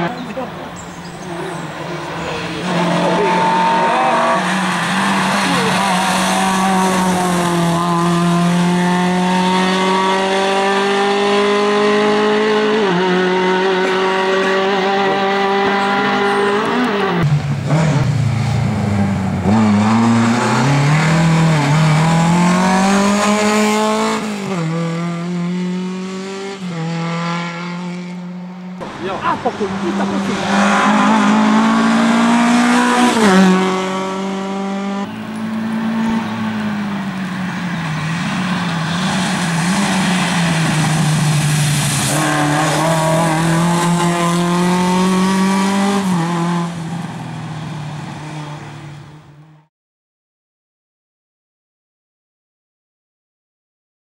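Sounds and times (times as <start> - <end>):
rally car engine revving: 0.0 - 49.2.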